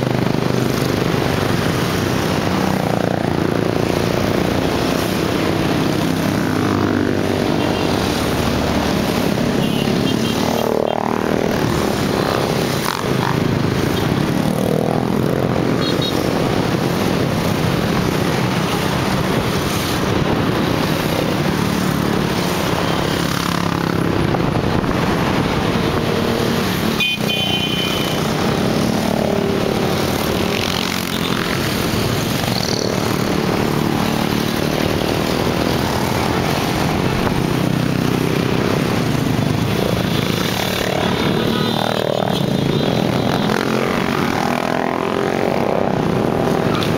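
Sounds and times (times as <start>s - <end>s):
motorbikes revving: 0.0s - 46.9s
motorcycle and scooter engines: 0.0s - 46.9s
road noise: 0.0s - 46.9s.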